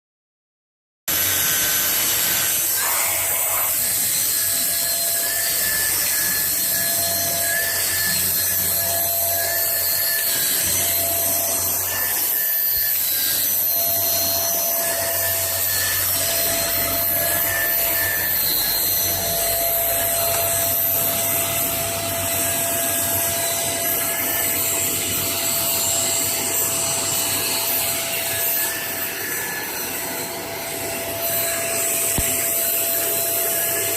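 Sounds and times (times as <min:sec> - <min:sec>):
vacuum cleaner running: 0:01.1 - 0:33.9.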